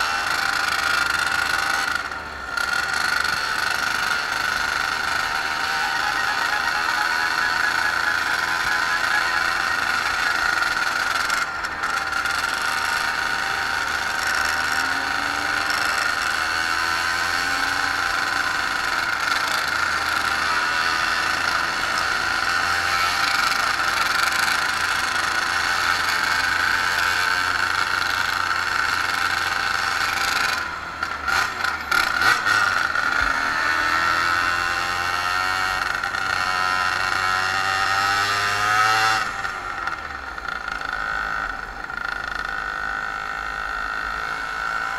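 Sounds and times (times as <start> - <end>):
moped engine running: 0.0 - 44.9.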